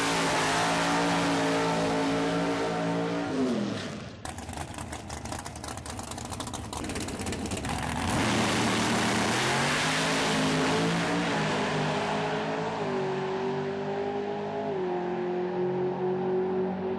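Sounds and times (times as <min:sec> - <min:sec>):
race car engine at full throttle: 0:00.0 - 0:16.9.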